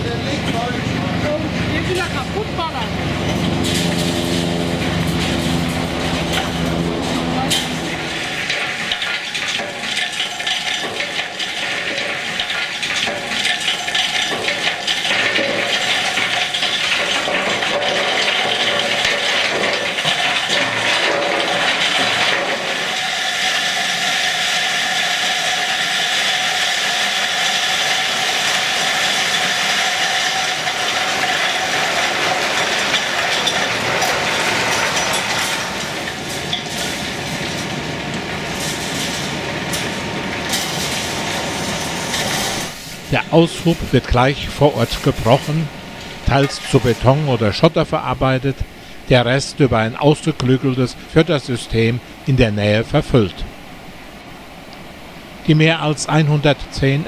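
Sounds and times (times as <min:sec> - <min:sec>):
stone pouring through steel grate: 0:03.4 - 0:51.9.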